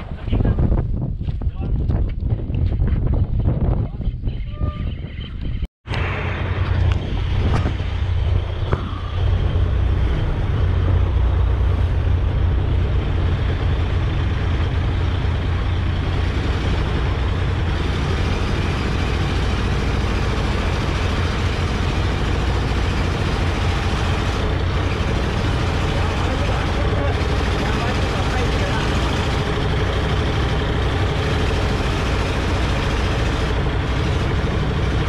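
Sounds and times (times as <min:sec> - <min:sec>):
constant rushing noise: 0:05.4 - 0:35.0
boat engine droning: 0:05.9 - 0:35.0.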